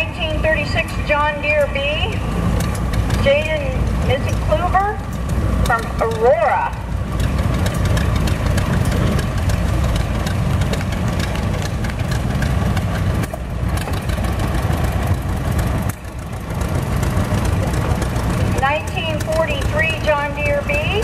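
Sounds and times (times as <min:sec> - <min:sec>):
tractor engine driving past: 0:00.0 - 0:21.0.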